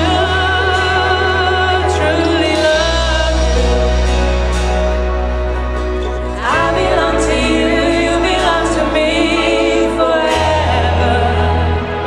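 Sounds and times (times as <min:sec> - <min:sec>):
voices singing with vibrato: 0:00.0 - 0:04.2, 0:06.2 - 0:12.0.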